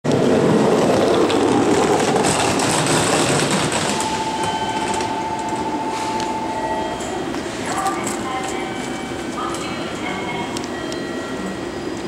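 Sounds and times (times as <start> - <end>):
steady high whine: 0.1 - 12.0
train wheels rumbling: 0.1 - 12.0.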